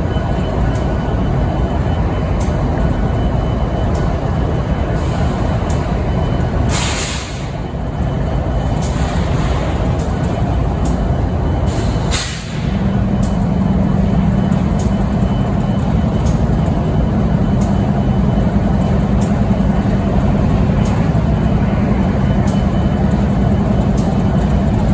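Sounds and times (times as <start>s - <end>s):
diesel locomotive idling: 0.0s - 24.9s.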